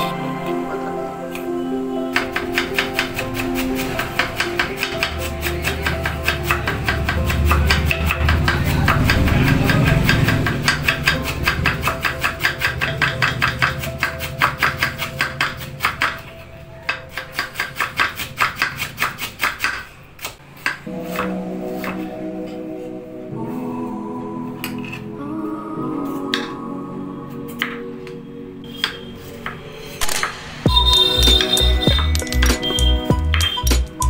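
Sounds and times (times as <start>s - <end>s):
background music: 0.0s - 19.7s, 20.4s - 34.0s.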